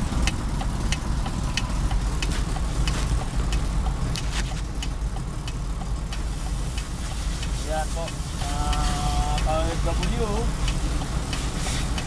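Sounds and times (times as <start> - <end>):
sharp engine clicks: 0.0 - 12.0
truck engine idling: 0.0 - 12.0.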